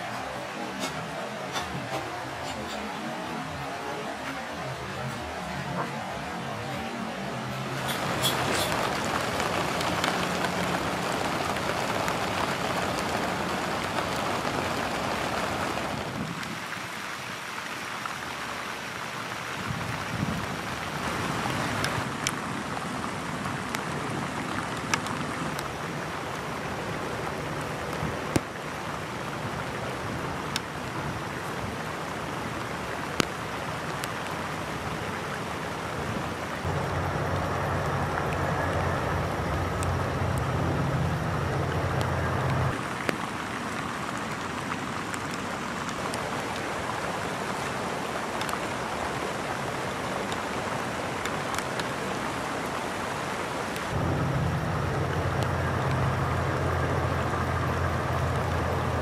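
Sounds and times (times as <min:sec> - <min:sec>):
rain falling on a pond: 0:00.0 - 0:59.0
raindrop ticks: 0:07.6 - 0:20.4, 0:21.1 - 0:34.9, 0:36.6 - 0:52.1, 0:53.7 - 0:59.0.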